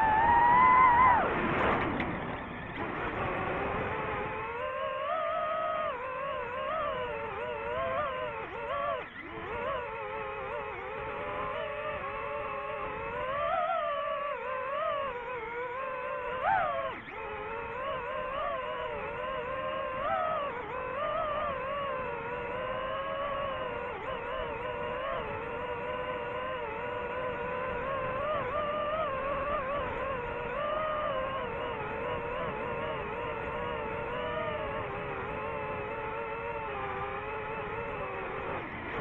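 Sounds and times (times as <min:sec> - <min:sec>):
drone propellers whining: 0:00.0 - 0:39.0.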